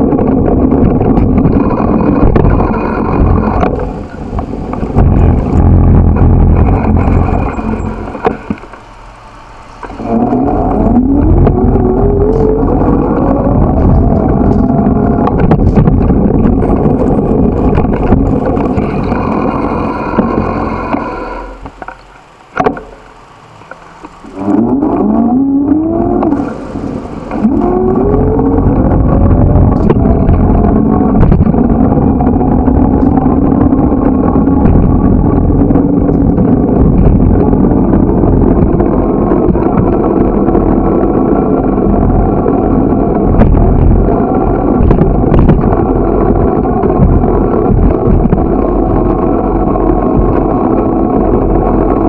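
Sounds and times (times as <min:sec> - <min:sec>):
truck accelerating: 0:00.0 - 0:52.0
vehicle engine running: 0:00.0 - 0:52.0
wind and road rumble: 0:00.0 - 0:52.0.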